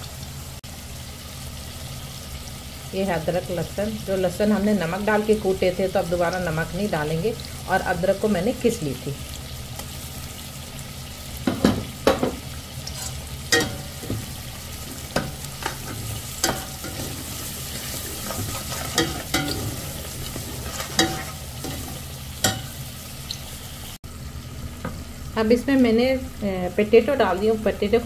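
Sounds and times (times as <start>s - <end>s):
food sizzling in oil: 0.0s - 28.0s.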